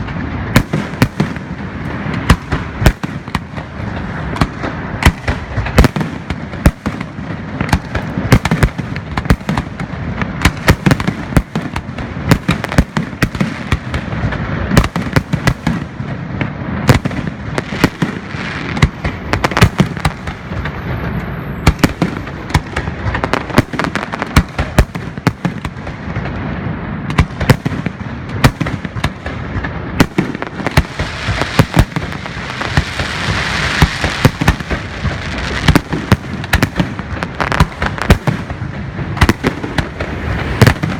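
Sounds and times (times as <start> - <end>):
fireworks bangs: 0.0 - 40.9
fireworks crackle: 0.0 - 40.9.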